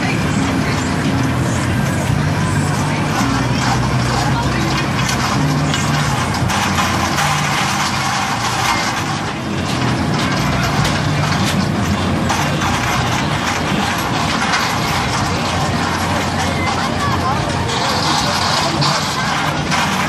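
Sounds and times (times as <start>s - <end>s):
faint voices: 0.0s - 20.0s
fairground machinery rumble: 0.0s - 20.0s.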